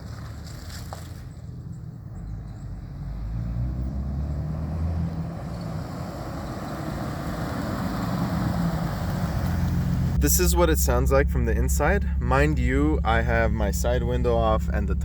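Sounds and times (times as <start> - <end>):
car exhaust rumble passing: 0.0 - 15.0.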